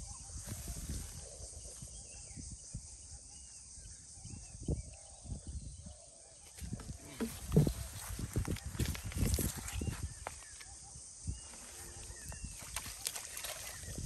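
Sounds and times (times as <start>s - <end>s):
faint bird chirps: 0.0s - 14.0s
wind rumble on microphone: 0.0s - 14.0s.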